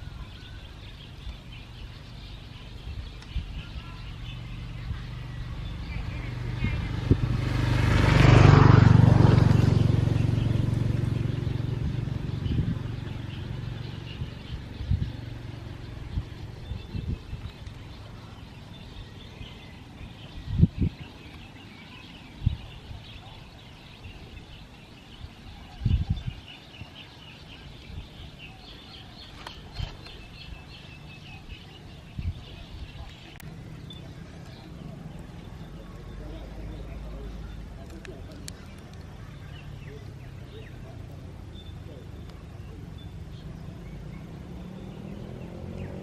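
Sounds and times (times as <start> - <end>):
bird chirping: 0.0 - 46.0
vehicle engine passing by: 1.5 - 25.3, 27.2 - 46.0.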